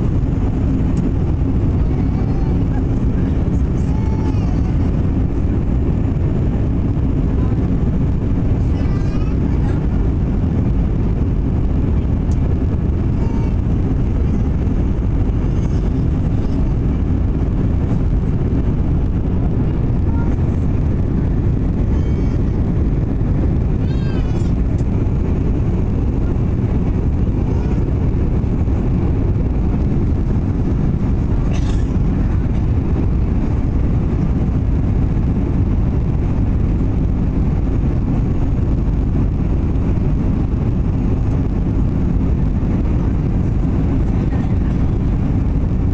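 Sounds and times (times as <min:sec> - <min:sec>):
airliner cabin engine and airflow noise: 0:00.0 - 0:45.9.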